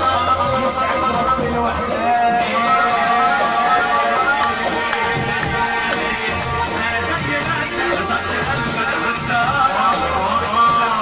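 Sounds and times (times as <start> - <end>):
loud amplified party music: 0.0 - 11.0
person singing into microphone: 0.0 - 11.0.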